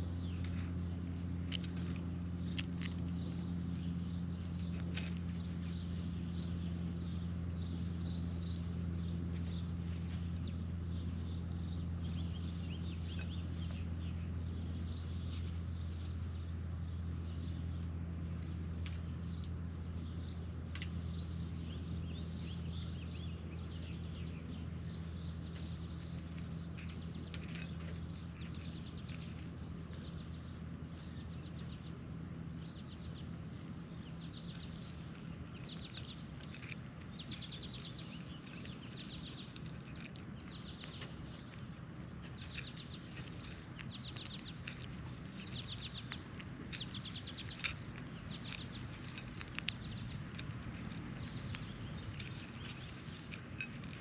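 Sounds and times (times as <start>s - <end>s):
birds chattering calls: 0.0s - 54.0s
low background hum: 0.0s - 54.0s.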